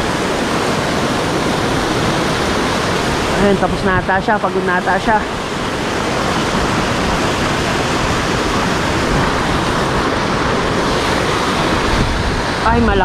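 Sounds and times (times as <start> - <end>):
water rushing over spillway: 0.0 - 13.0.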